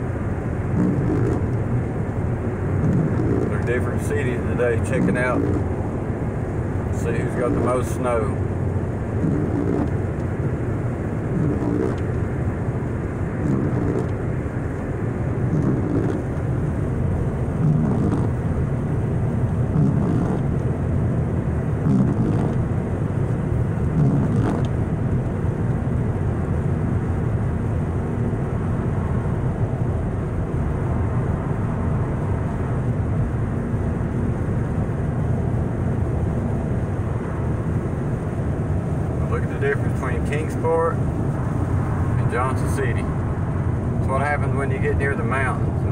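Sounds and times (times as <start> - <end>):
car cabin road and engine noise: 0.0 - 45.9.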